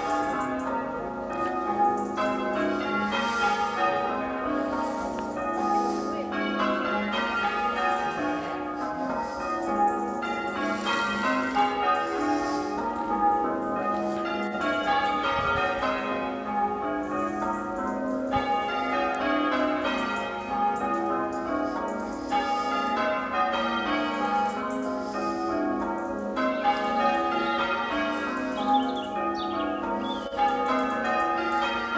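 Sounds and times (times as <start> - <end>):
church bells ringing changes: 0.0 - 31.9.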